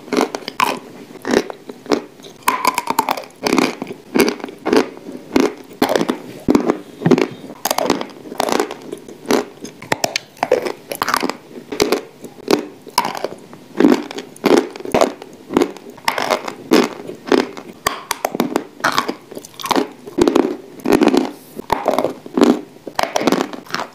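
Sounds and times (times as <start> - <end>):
crunchy chewing: 0.0 - 23.9.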